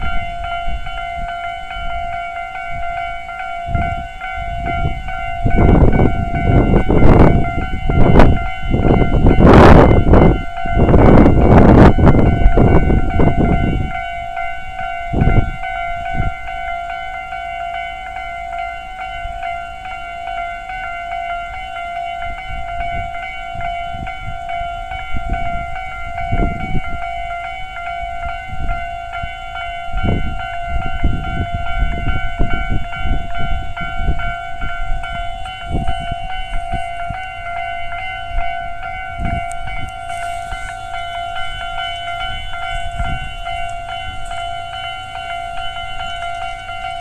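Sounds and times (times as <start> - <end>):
level crossing alarm bells: 0.0 - 47.0.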